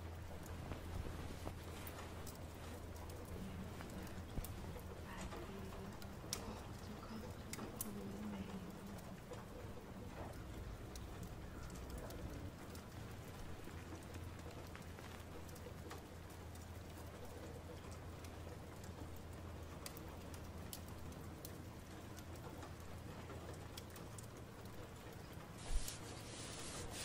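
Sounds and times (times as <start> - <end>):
light rain hiss: 0.0 - 27.0
steady low hum: 0.0 - 27.0
faint ticks: 0.1 - 26.2.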